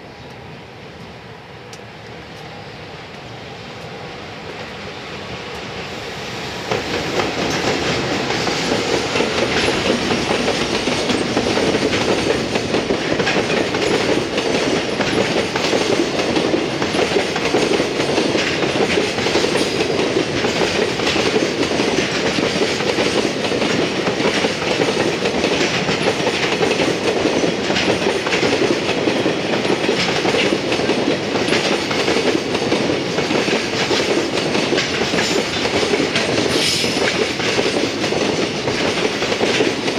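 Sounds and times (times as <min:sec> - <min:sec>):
train wheels clattering on rails: 0:00.2 - 0:39.9.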